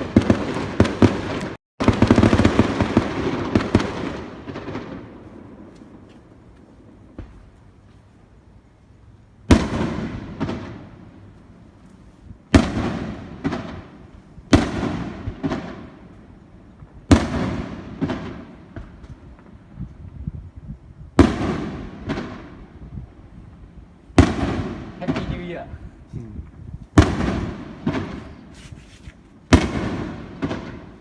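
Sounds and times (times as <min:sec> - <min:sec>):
fireworks bangs: 0:00.0 - 0:08.1, 0:09.4 - 0:31.0.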